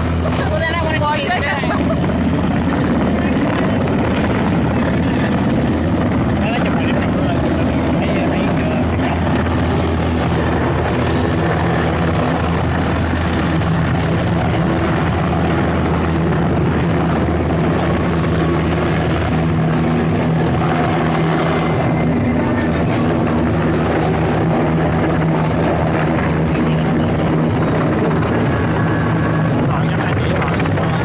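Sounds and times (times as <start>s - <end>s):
helicopter rotor and engine: 0.0s - 31.0s.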